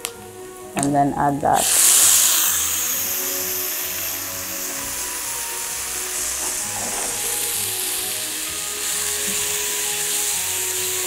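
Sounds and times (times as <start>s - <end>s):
soft background music: 0.0s - 11.0s
food sizzling in oil: 1.6s - 11.0s.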